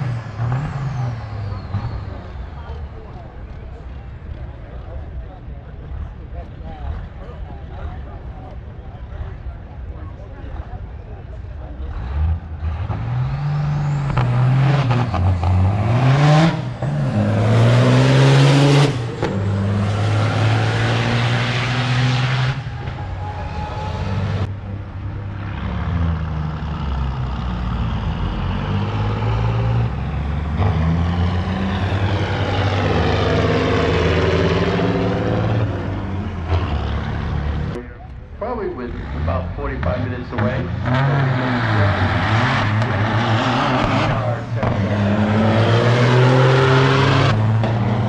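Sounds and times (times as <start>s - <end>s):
diesel truck engine accelerating: 0.0s - 48.0s.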